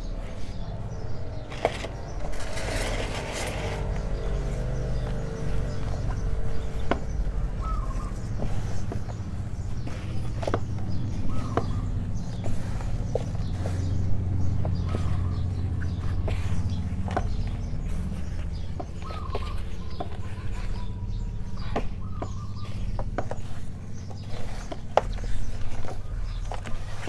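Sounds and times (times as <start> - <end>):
low hum: 0.0 - 23.1
hands scrunching dry soil: 0.0 - 27.0.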